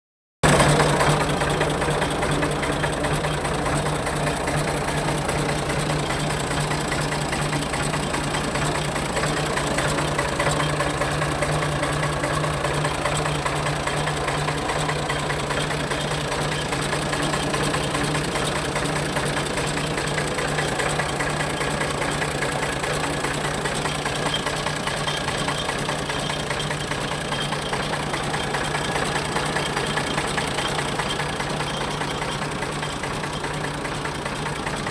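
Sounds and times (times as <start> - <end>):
tractor diesel engine idling: 0.4 - 34.9.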